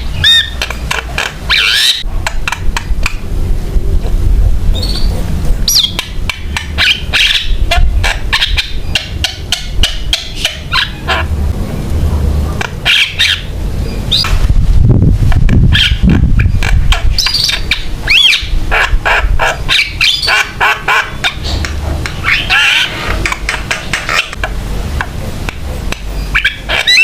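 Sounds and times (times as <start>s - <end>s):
myna bird singing: 0.0s - 2.6s, 4.7s - 14.4s, 15.7s - 24.6s, 25.9s - 27.0s
low steady rumble: 0.0s - 27.0s.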